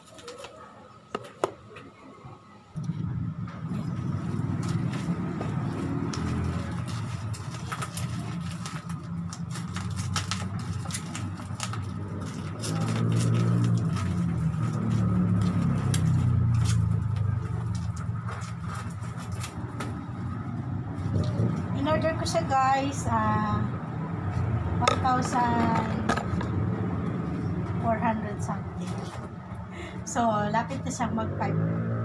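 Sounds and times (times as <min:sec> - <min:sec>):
low engine rumble: 0:02.0 - 0:32.0.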